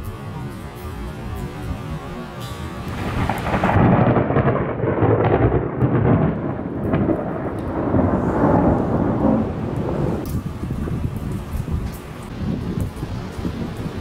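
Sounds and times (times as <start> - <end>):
rain falling: 0.0 - 14.0
rolling thunder: 1.2 - 14.0.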